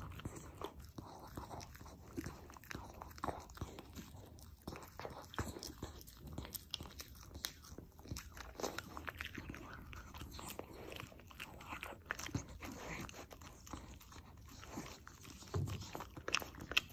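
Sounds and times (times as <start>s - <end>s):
dog chewing bread: 0.0s - 16.9s.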